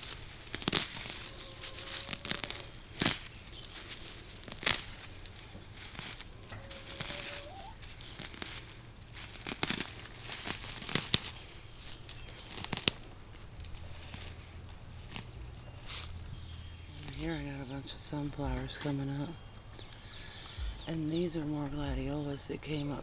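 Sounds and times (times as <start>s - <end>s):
sharp snaps of twigs: 0.0s - 22.3s
dry plants rustling and crackling: 0.0s - 23.0s.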